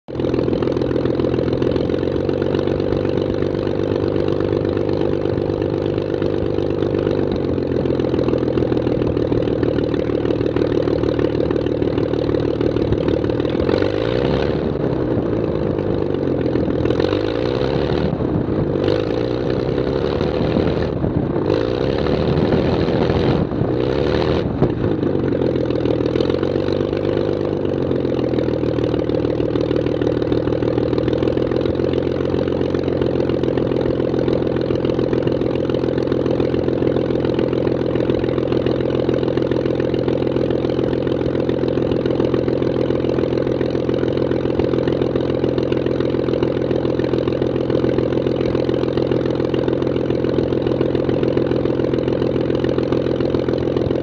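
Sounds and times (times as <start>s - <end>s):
propeller aircraft engine running: 0.0s - 54.0s.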